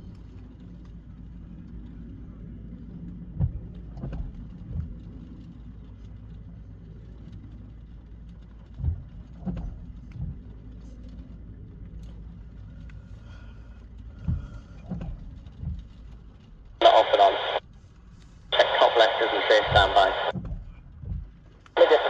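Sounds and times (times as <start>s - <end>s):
low rumble inside car: 0.0s - 22.0s.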